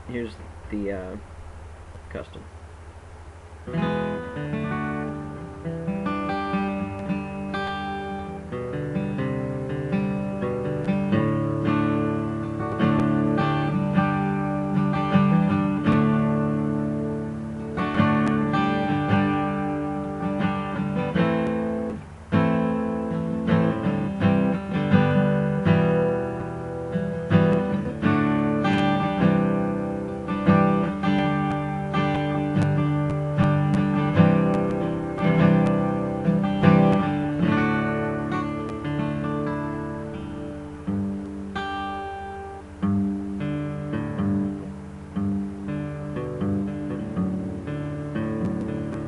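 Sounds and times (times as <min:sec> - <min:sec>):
acoustic guitar strumming chords: 0:00.0 - 0:49.0.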